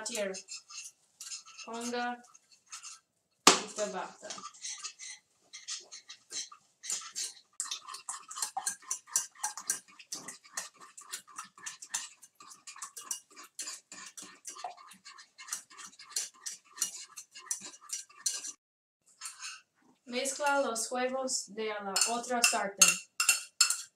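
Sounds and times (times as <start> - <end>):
utensil stirring eggs in a pan: 0.0 - 20.9, 21.9 - 23.9.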